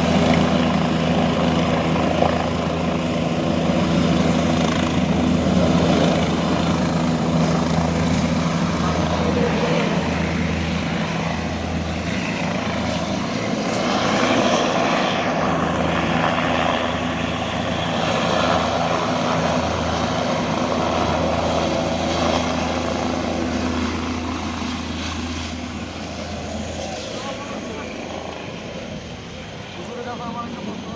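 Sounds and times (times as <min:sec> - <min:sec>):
helicopter engine and rotor: 0:00.0 - 0:30.9.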